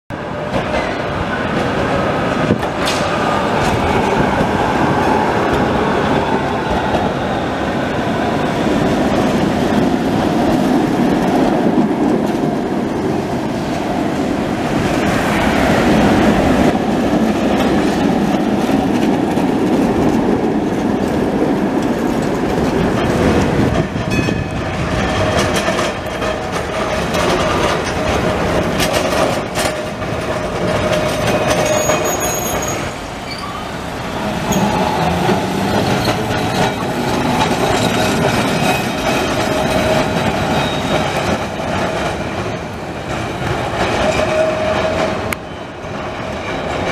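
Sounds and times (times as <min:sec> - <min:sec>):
tram wheels rumbling on rails: 0:00.1 - 0:46.9.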